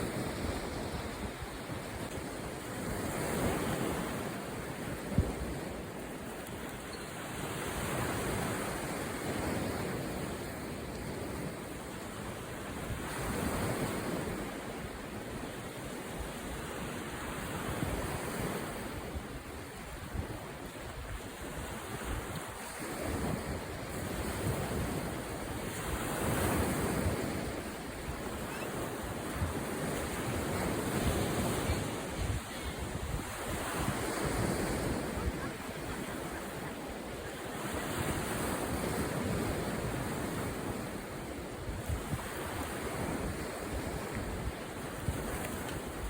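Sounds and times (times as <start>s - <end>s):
sea waves washing: 0.0s - 46.0s
wind on microphone: 0.0s - 46.0s.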